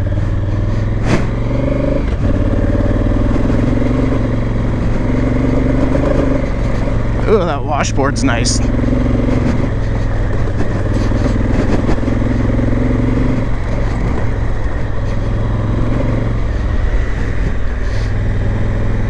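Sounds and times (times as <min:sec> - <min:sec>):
motorcycle engine running: 0:00.0 - 0:19.0
road noise on gravel: 0:00.0 - 0:19.0.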